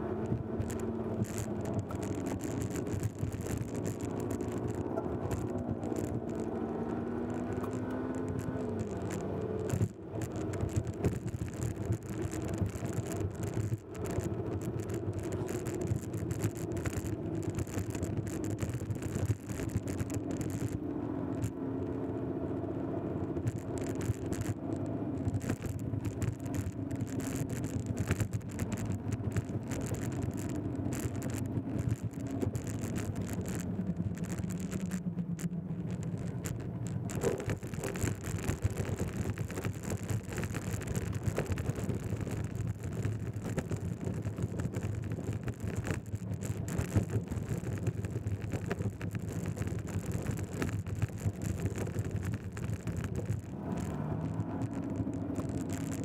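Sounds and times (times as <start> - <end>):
small clicks and rattles: 0.0 - 22.2, 23.2 - 56.0
vehicle engine and road noise: 0.0 - 56.0.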